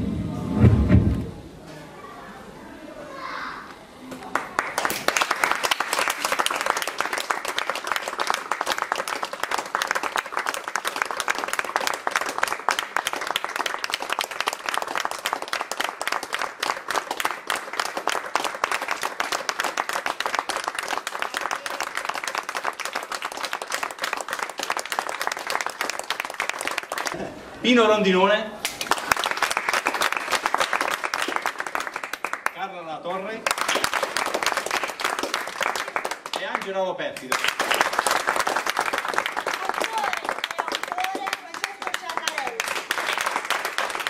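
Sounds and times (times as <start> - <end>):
audience applauding: 4.3 - 27.2, 28.6 - 32.7, 33.4 - 44.0.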